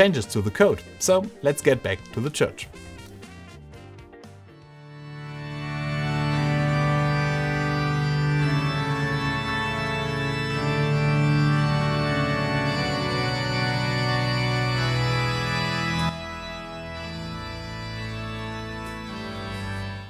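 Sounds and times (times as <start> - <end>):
organ playing held chords: 0.0 - 20.0.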